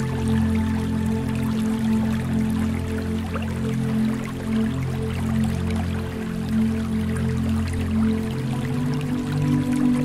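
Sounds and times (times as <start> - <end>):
music of sustained notes: 0.0 - 10.0.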